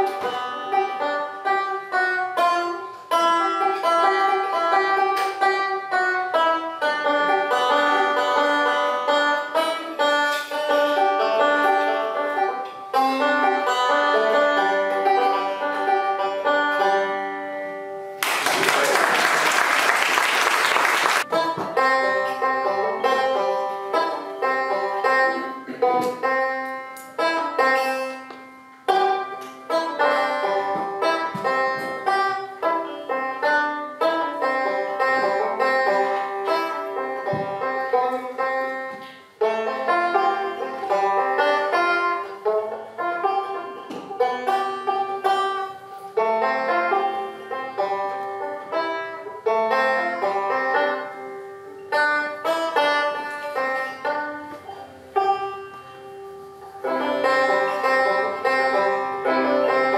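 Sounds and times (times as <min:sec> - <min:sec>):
solo banjo playing: 0:00.0 - 0:18.3, 0:20.7 - 0:59.9.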